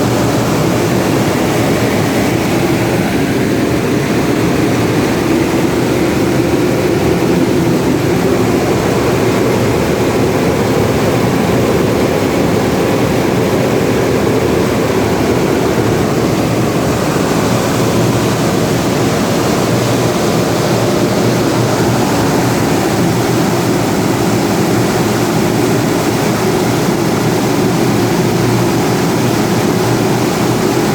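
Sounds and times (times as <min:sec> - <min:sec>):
generator engine running: 0:00.0 - 0:30.9.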